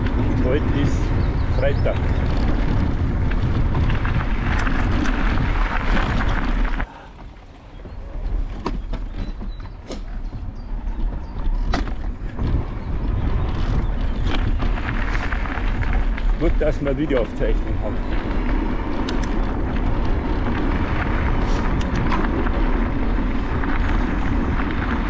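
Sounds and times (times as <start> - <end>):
tyres rolling on gravel: 0.0 - 25.0
wind rushing over microphone: 0.0 - 25.0.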